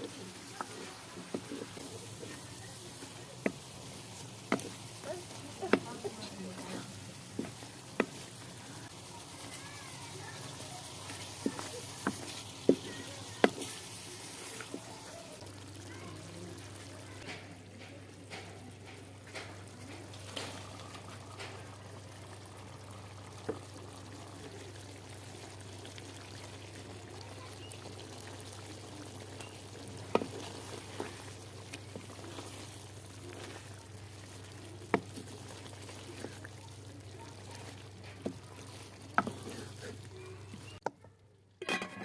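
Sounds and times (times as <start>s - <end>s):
curry sizzling in a pot: 0.0s - 40.9s.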